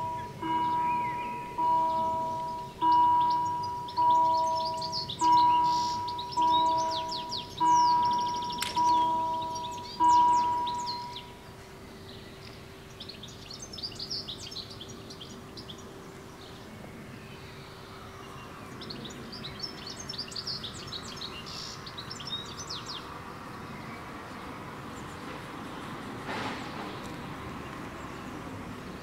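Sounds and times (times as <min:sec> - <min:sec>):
small birds chirping: 0:00.0 - 0:29.0
soft outdoor background noise: 0:00.0 - 0:29.0.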